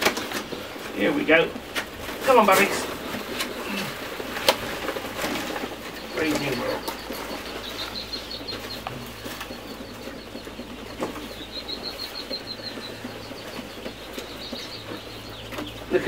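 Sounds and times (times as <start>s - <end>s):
chicks peeping: 0.0s - 16.0s
rustling and scratching: 0.0s - 16.0s.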